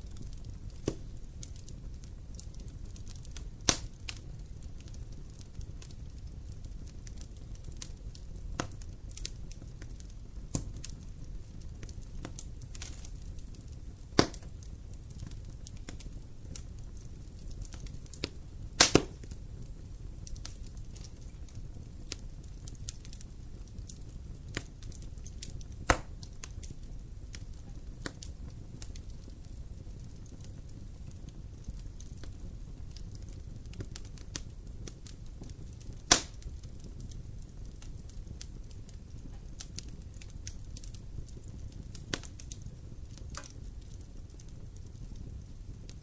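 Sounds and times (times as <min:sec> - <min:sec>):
loud sharp pops of fire: 0:00.0 - 0:46.0
wood fire crackling: 0:00.0 - 0:46.0.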